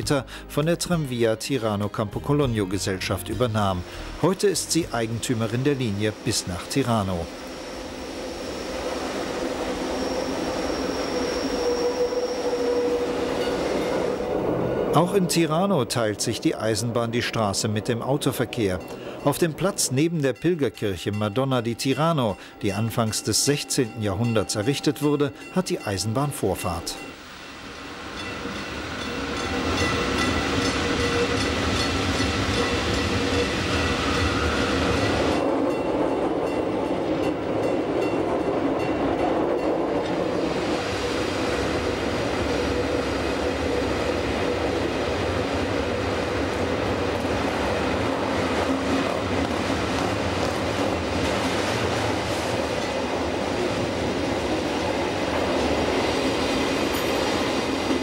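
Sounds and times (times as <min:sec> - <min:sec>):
train wheels on track: 0:03.7 - 0:25.8, 0:26.8 - 0:58.0.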